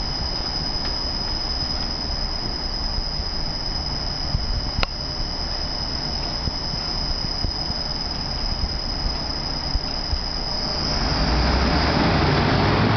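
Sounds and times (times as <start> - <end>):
high-pitched fan whine: 0.0 - 12.9
industrial fan running: 0.0 - 12.9.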